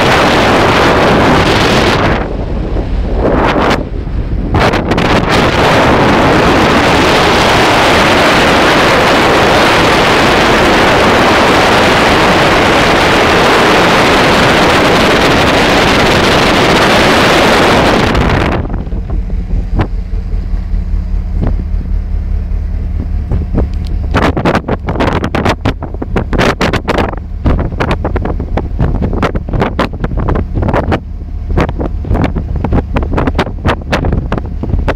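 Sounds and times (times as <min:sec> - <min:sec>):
ship engine humming: 0:00.0 - 0:34.9
wind buffeting microphone: 0:00.0 - 0:34.9.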